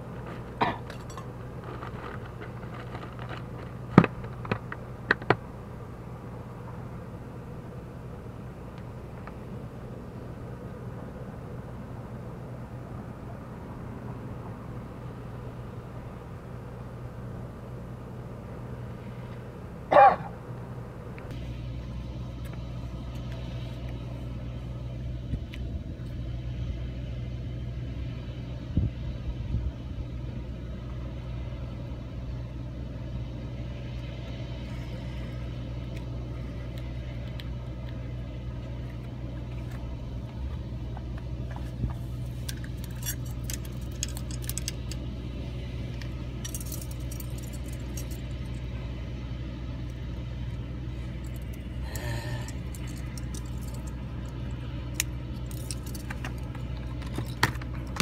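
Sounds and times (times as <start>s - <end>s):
low outdoor rumble: 0.0s - 58.0s.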